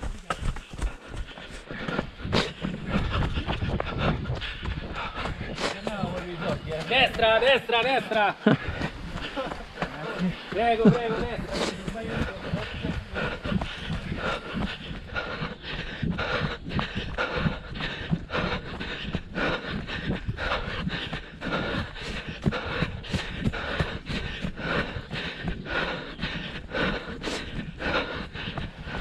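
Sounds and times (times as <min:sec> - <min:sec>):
panting breath: 0:00.0 - 0:07.3, 0:08.4 - 0:29.0
running footsteps on leafy dirt: 0:00.0 - 0:29.0.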